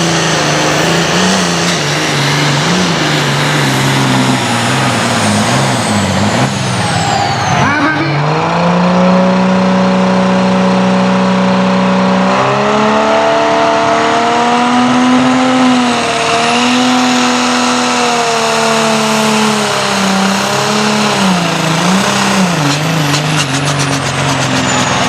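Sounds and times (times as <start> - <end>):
tractor engine at full power: 0.0 - 25.0.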